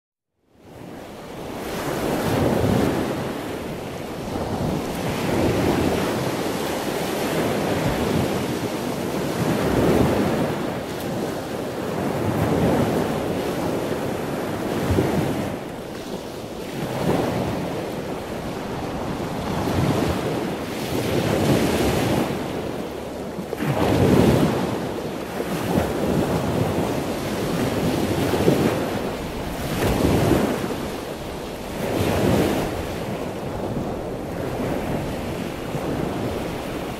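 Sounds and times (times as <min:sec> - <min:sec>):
ocean waves washing in: 0:00.6 - 0:36.9.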